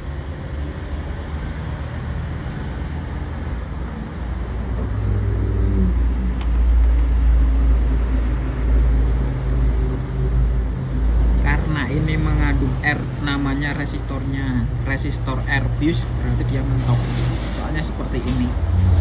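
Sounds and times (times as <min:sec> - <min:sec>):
low steady engine rumble: 0:00.0 - 0:19.0.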